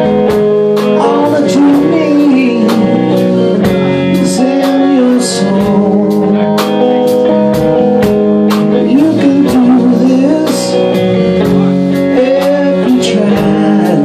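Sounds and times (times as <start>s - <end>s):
electric guitar: 0.0s - 14.0s
steady drum beat: 0.0s - 14.0s
man singing: 0.8s - 7.7s, 8.6s - 14.0s.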